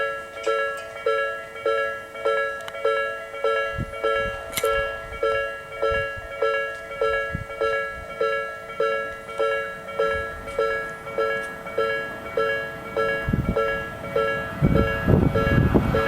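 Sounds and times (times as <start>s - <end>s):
level crossing alarm dinging: 0.0s - 16.0s.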